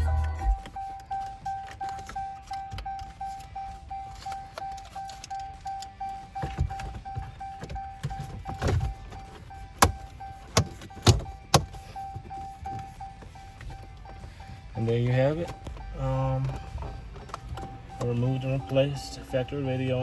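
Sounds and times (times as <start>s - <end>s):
rapidly repeating beep: 0.0s - 20.0s.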